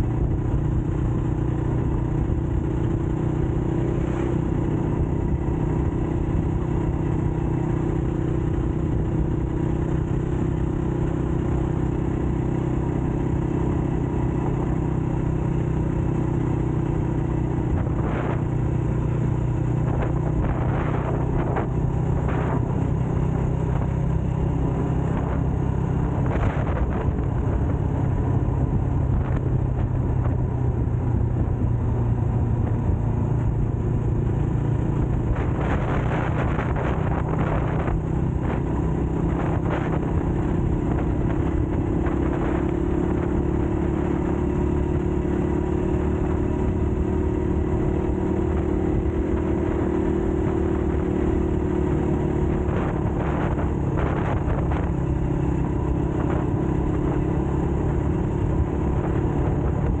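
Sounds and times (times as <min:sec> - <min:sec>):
dirt bike engine running: 0:00.0 - 1:00.0.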